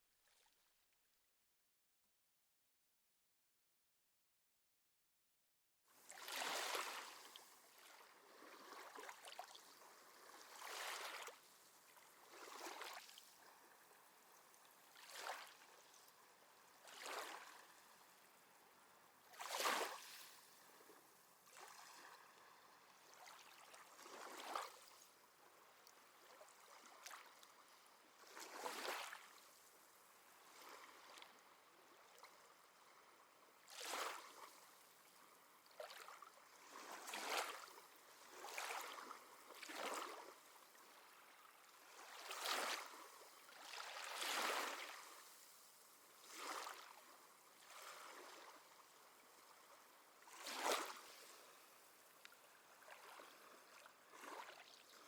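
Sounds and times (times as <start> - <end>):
faint wash of water: 6.0 - 55.0
small waves splashing: 6.0 - 55.0.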